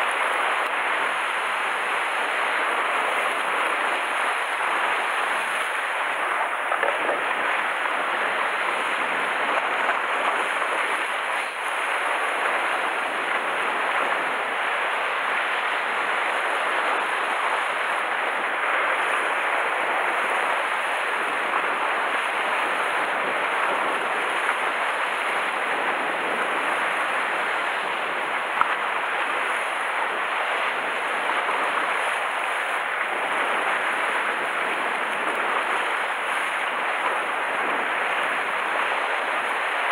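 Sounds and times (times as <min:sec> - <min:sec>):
surf washing against rocks: 0:00.0 - 0:39.9.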